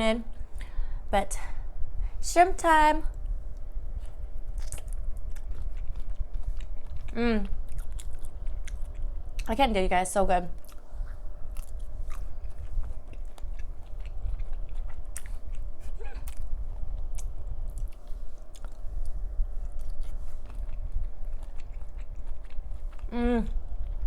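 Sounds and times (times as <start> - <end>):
close chewing and biting: 3.6 - 9.5, 10.5 - 24.0.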